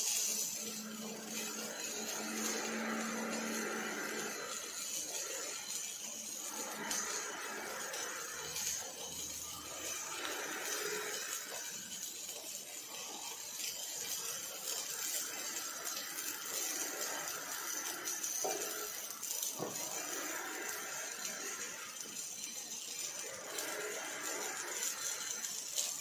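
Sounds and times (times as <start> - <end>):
welding arc crackling hiss: 0.0 - 26.0.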